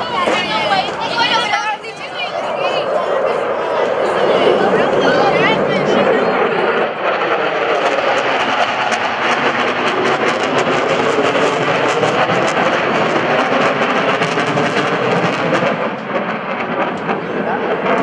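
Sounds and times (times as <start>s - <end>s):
fighter jet passing overhead: 0.0s - 18.0s.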